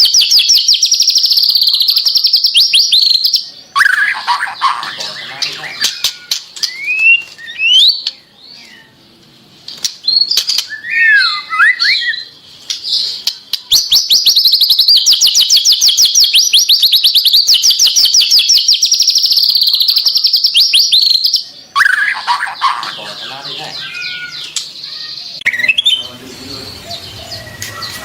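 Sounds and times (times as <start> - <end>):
songbird whistling and trilling: 0.0 - 9.0, 10.0 - 28.0.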